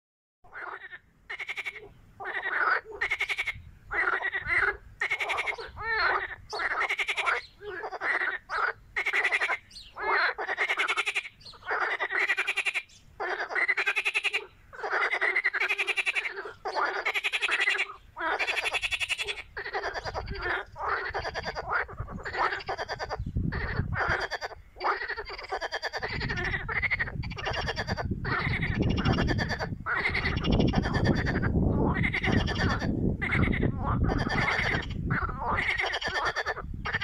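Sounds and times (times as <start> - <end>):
frogs croaking: 0.5 - 37.0.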